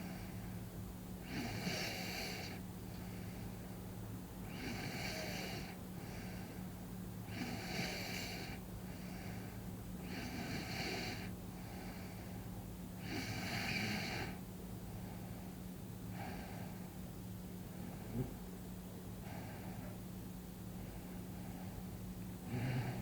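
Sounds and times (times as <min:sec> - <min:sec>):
steady low hum: 0:00.0 - 0:23.0
heavy breathing and light snoring: 0:01.2 - 0:03.6, 0:04.4 - 0:17.0, 0:17.7 - 0:18.4, 0:19.2 - 0:20.0, 0:20.8 - 0:23.0.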